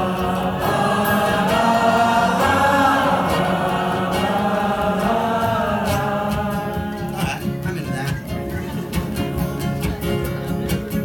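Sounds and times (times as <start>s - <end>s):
crowd singing along: 0.0s - 9.7s.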